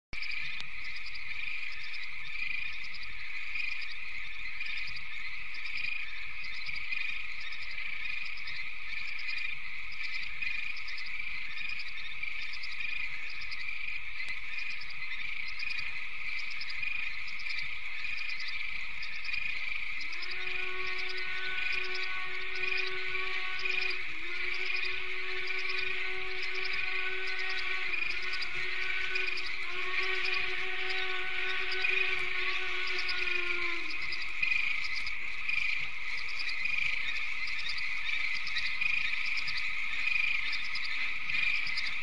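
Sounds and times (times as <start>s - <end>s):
crickets trilling: 0.2s - 42.0s
pulsed cricket chirping: 0.2s - 42.0s.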